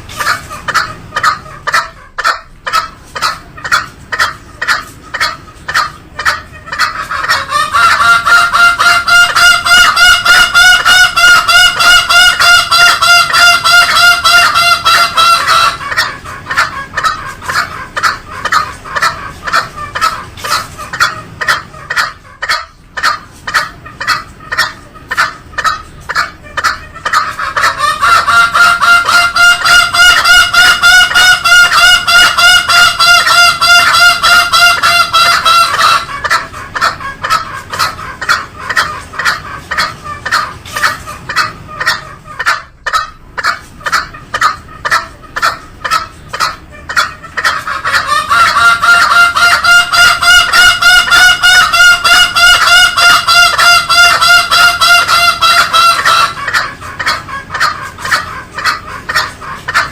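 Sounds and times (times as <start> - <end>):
junglefowl calls: 0.0 - 59.9.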